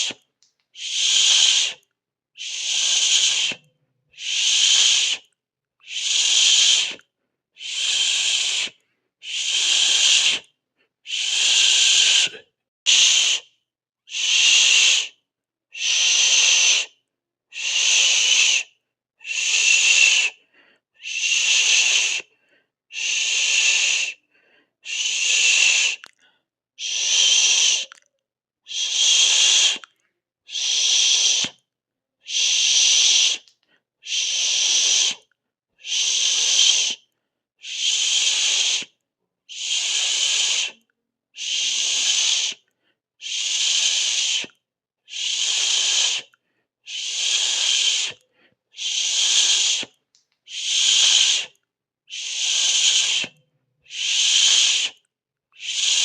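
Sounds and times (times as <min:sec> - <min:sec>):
person hissing through teeth: 0:00.0 - 0:00.2, 0:00.8 - 0:01.8, 0:02.4 - 0:07.0, 0:07.6 - 0:13.5, 0:14.1 - 0:15.2, 0:15.8 - 0:20.4, 0:21.0 - 0:22.3, 0:22.9 - 0:24.2, 0:24.8 - 0:26.2, 0:26.8 - 0:28.0, 0:28.7 - 0:29.9, 0:30.5 - 0:31.6, 0:32.2 - 0:55.0, 0:55.6 - 0:56.0.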